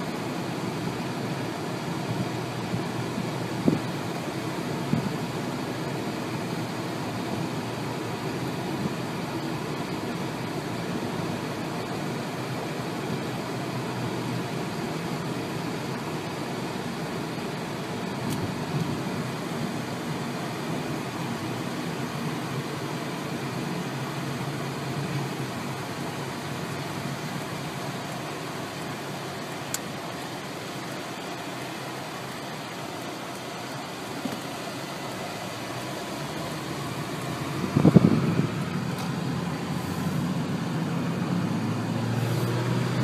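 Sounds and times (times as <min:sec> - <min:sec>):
car engine and road rumble: 0:00.0 - 0:43.0
ventilation fan hiss: 0:00.0 - 0:43.0.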